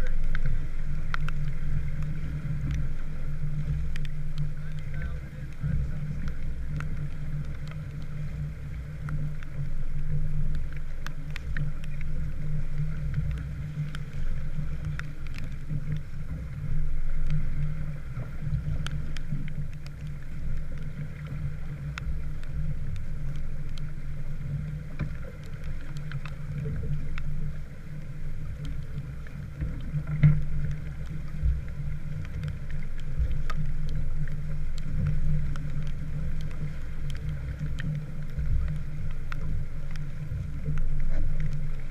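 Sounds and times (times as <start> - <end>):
light rain ticks: 0.0 - 41.9
water rushing along boat hull: 0.0 - 41.9.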